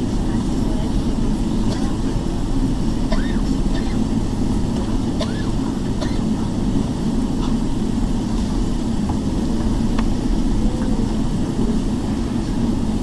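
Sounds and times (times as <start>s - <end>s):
airplane cabin rumble while taxiing: 0.0s - 13.0s.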